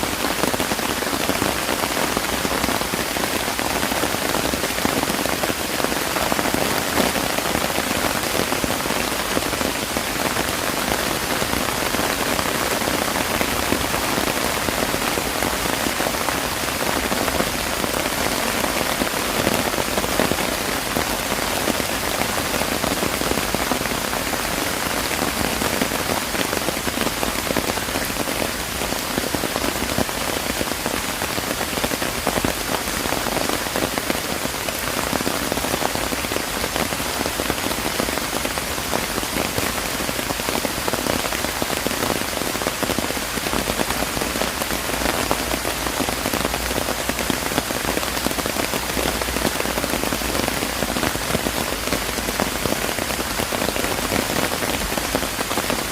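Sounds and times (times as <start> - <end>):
steady rain pattering: 0.0 - 55.9.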